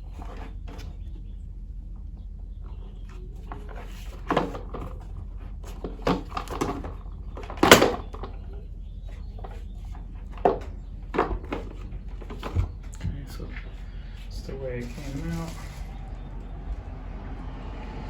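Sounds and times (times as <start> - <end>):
parts knocking and clunking: 0.0 - 17.1
steady low hum: 0.0 - 18.0.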